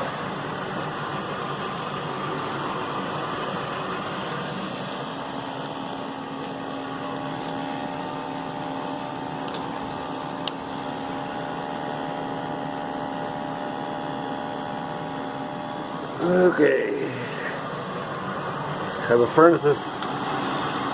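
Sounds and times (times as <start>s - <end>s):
gas furnace humming: 0.0s - 20.9s.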